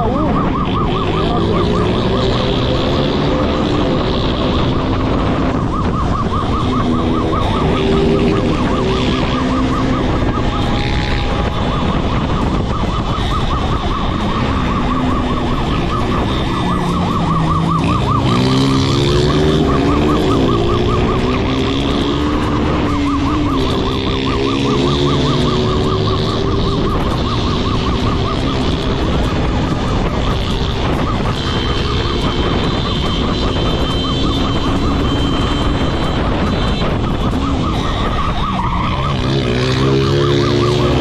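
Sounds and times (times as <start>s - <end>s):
motorcycle engine revving: 0.0s - 41.0s
police siren wailing: 0.0s - 41.0s.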